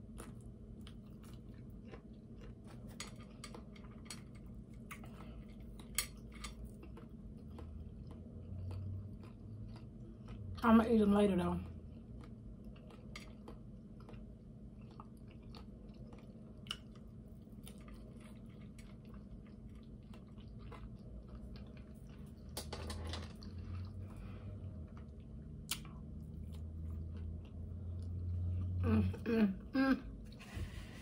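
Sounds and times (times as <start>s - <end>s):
chewing and mouth noises: 0.0s - 10.8s, 11.6s - 22.7s, 23.3s - 28.8s
low hum: 0.0s - 31.0s.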